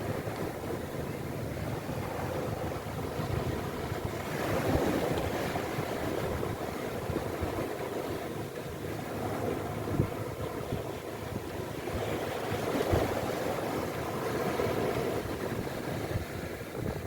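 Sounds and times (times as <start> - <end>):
wind buffeting microphone: 0.0 - 8.4, 9.0 - 17.0
sea waves washing on shore: 0.0 - 17.0.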